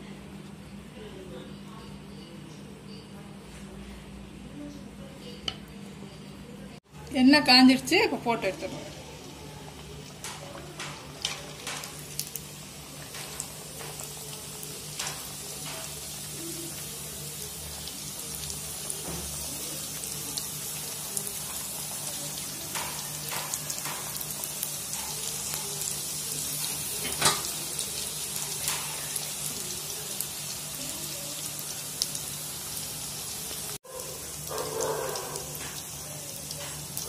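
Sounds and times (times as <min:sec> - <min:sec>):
frying in hot oil: 0:04.7 - 0:37.0.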